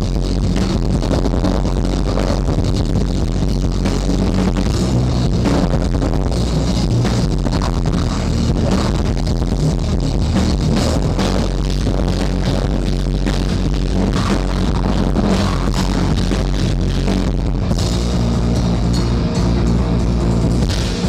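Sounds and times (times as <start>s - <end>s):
drums and cymbals hit hard: 0.0s - 21.0s
rock band playing live: 0.0s - 21.0s.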